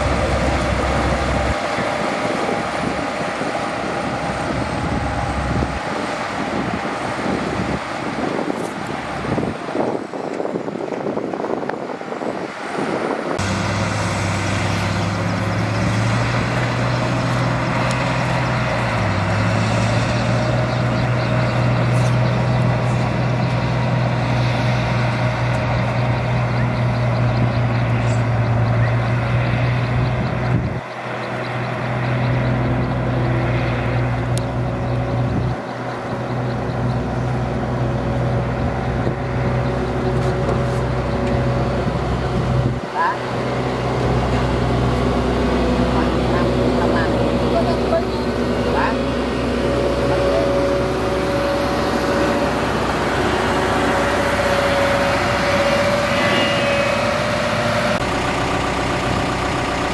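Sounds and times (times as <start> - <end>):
heavy machinery diesel engine drone: 0.0 - 59.9.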